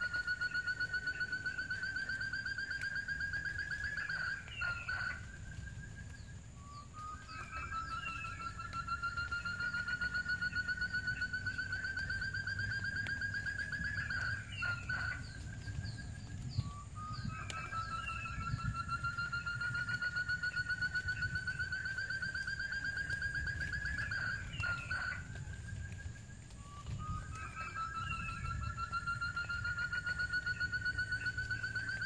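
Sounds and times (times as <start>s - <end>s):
quail trill rising in pitch: 0.0s - 32.0s.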